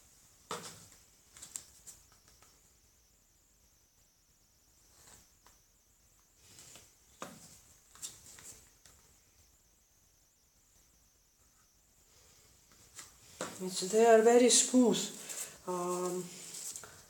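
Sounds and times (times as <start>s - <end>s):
faint high hiss: 0.0s - 17.0s.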